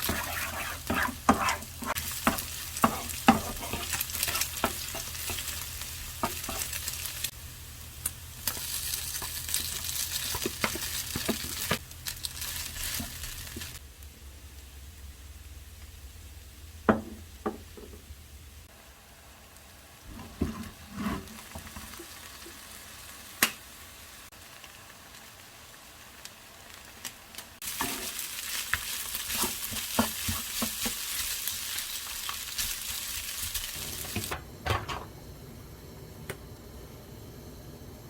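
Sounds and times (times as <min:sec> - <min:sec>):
food sizzling in a frying pan: 0:00.0 - 0:13.8, 0:18.6 - 0:35.2.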